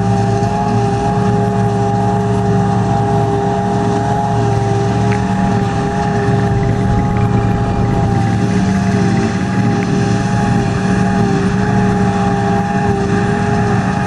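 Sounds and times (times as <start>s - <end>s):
harvester machine drone: 0.0s - 14.0s.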